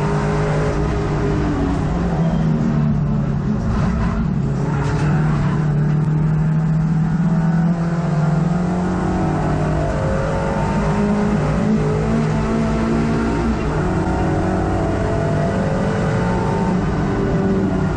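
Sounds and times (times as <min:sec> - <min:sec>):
race car engine at high revs: 0:00.0 - 0:17.9.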